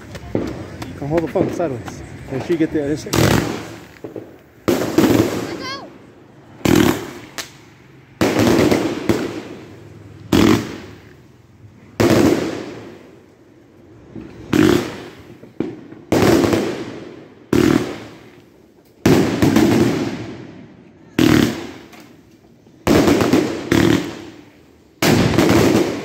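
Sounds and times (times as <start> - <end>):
firework bangs: 0.0 - 26.0.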